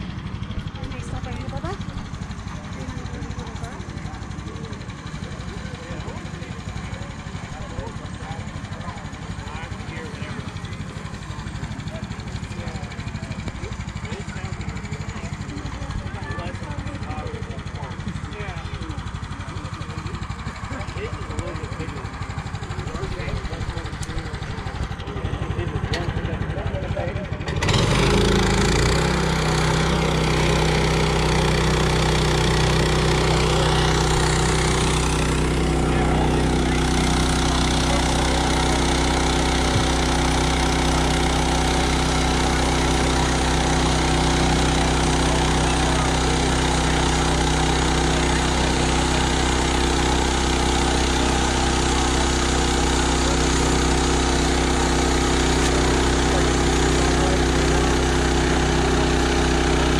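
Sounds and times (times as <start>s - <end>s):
small gasoline engine running: 0.0s - 59.9s.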